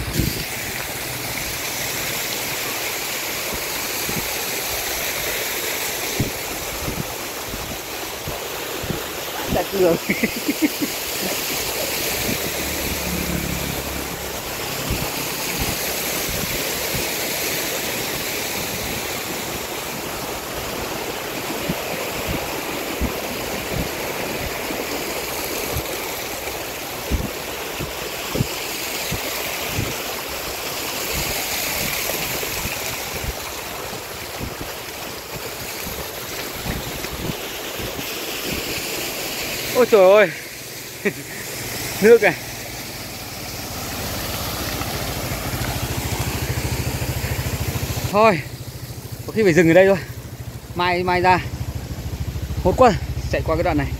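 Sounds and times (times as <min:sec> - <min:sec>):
motorbike on wet road: 0:00.0 - 0:53.9
rushing wind: 0:00.0 - 0:53.9.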